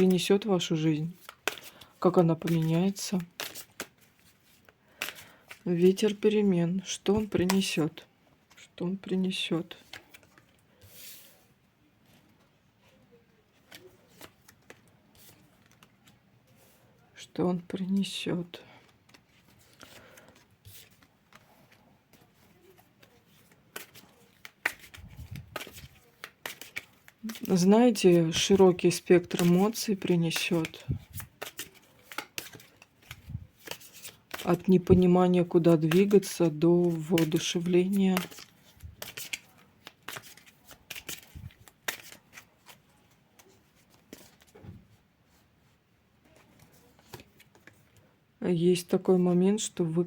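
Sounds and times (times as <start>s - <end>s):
cards being handled: 0.0s - 16.9s, 17.7s - 45.4s, 46.2s - 48.1s.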